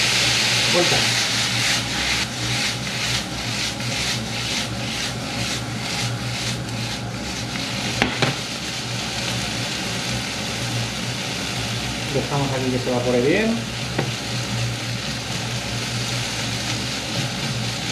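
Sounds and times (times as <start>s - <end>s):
food sizzling in frying pan: 0.0s - 17.9s
utensil stirring in pan: 0.0s - 17.9s.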